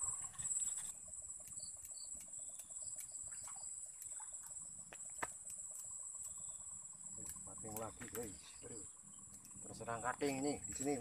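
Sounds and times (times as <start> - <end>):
crickets chirping: 0.0 - 11.0
faint ticks: 0.0 - 11.0.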